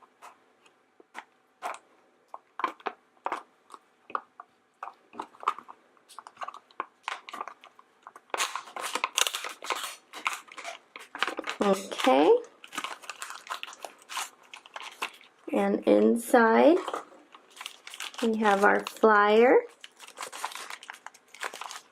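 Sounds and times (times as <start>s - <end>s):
packaging crinkling: 1.0s - 15.5s, 16.8s - 21.9s.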